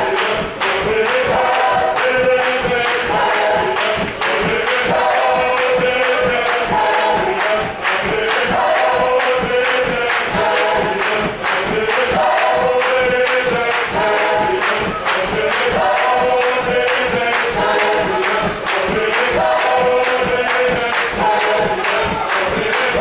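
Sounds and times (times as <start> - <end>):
choir singing chant-like line: 0.0 - 23.0
hand claps: 0.0 - 23.0.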